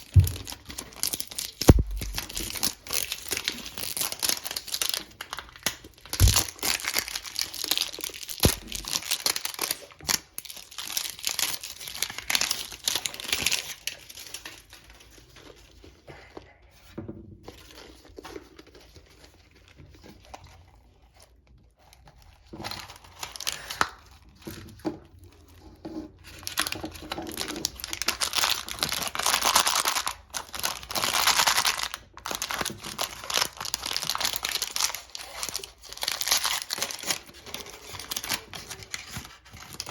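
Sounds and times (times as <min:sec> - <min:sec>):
plastic wrapping crinkling and tearing: 0:00.0 - 0:16.0, 0:17.5 - 0:25.5, 0:26.2 - 0:39.9.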